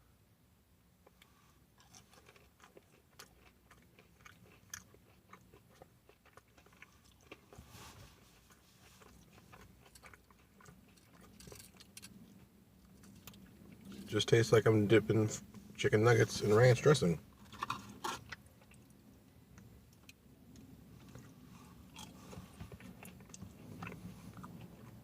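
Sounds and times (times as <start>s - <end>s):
chewing crunchy food: 1.0s - 14.1s, 17.3s - 25.0s.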